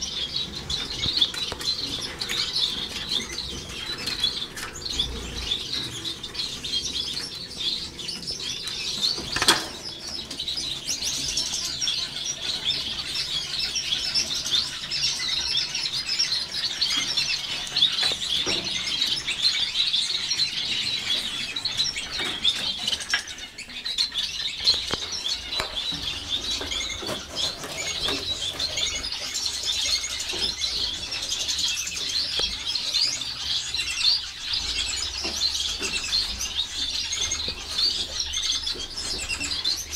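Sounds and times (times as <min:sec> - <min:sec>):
finches twittering and chirping: 0:00.0 - 0:39.9.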